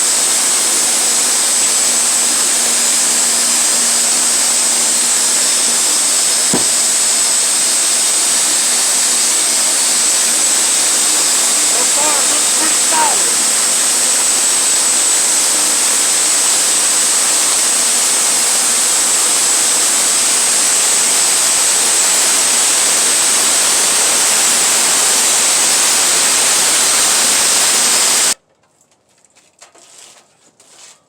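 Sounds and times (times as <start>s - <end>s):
sawmill cutting a log: 0.0s - 28.4s.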